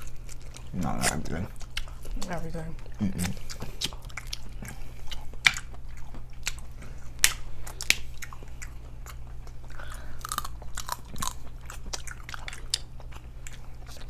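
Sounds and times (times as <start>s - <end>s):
chewing and biting food: 0.0s - 14.0s
steady low hum: 0.0s - 14.0s.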